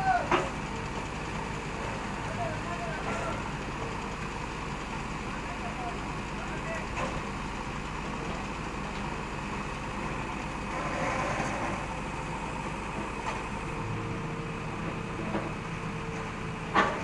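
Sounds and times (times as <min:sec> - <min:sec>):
backhoe digging: 0:00.0 - 0:17.0
diesel engine running: 0:00.0 - 0:17.0.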